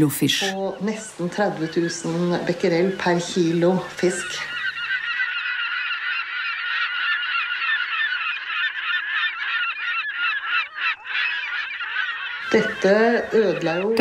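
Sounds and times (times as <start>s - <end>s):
flock of birds calling: 0.2s - 14.0s.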